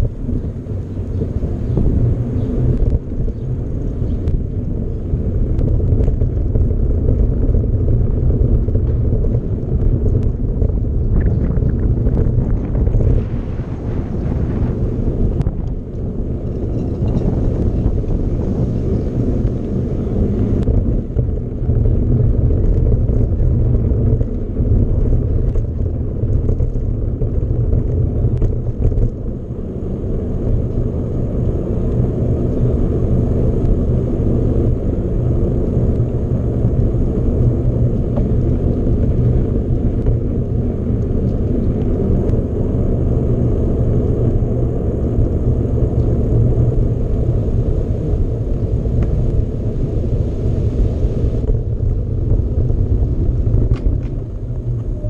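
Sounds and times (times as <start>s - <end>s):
bike tyres rolling: 0.0s - 55.0s
wind buffeting microphone: 0.0s - 55.0s.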